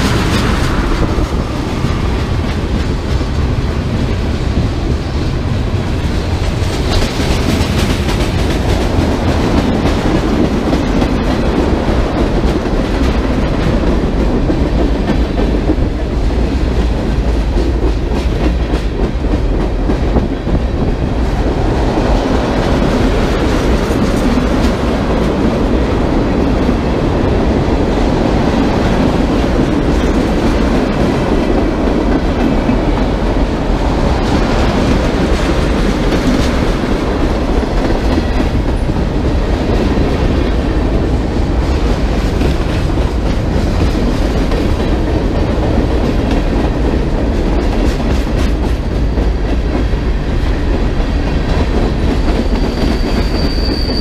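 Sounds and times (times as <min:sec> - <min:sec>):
train rumbling past: 0:00.0 - 0:54.0
wheels clattering on rail: 0:00.0 - 0:54.0.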